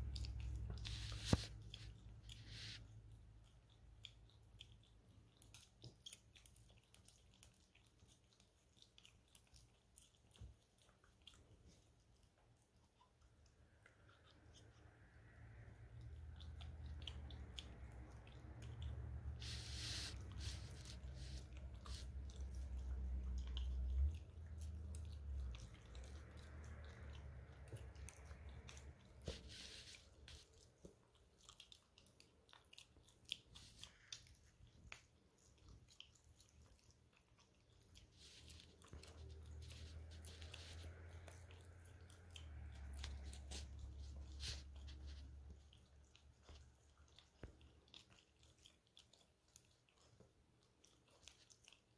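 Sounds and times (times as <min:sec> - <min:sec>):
puppy gnawing rubber toy: 0:00.0 - 0:51.9
wet licking: 0:00.0 - 0:51.9.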